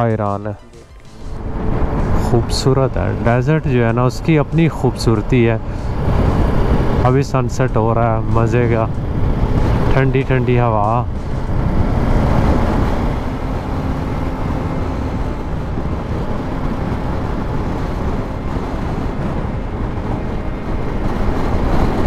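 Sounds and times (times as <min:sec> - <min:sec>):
motorcycle engine humming: 0:00.0 - 0:22.0
road noise: 0:00.0 - 0:22.0
wind rush: 0:01.0 - 0:22.0.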